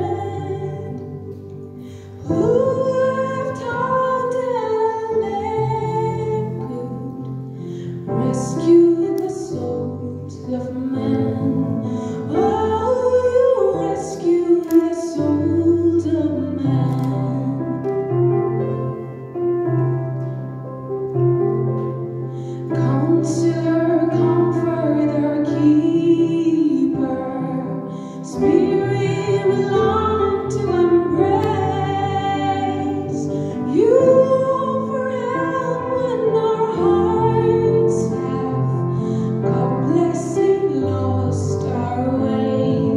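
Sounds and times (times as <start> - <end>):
woman singing into a microphone: 0.0 - 19.0, 22.6 - 42.9.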